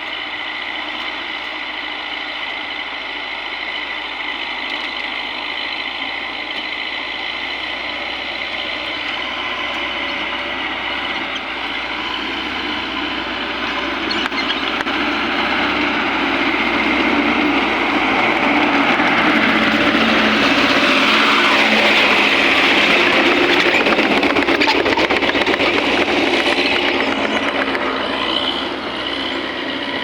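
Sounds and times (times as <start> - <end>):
heavy vehicle engine running: 0.0 - 30.0.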